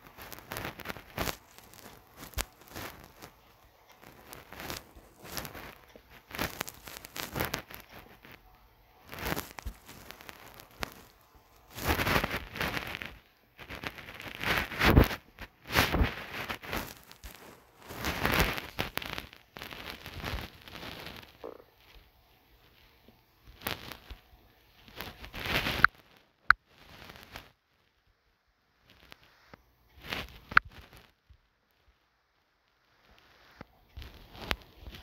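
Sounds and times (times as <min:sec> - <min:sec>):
rustling and crackling: 0:00.0 - 0:28.1, 0:28.7 - 0:32.1, 0:32.7 - 0:35.0.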